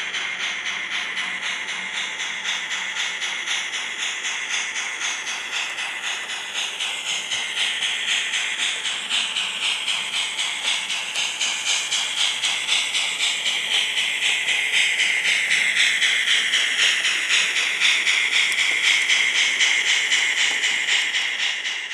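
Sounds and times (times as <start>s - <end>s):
steam hiss: 0.0s - 21.9s
steam locomotive chuffing: 0.0s - 21.9s.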